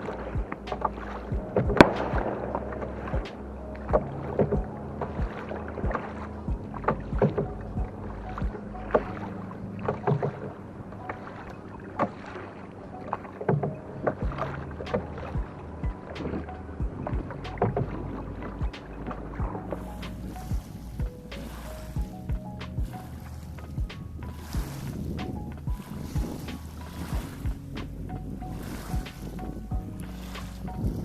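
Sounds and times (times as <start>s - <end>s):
paddle splashing water: 0.0s - 31.0s.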